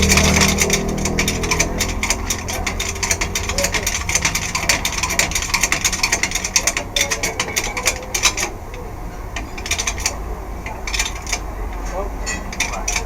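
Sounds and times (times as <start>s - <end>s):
ratchet wrench clicking: 0.0s - 13.0s.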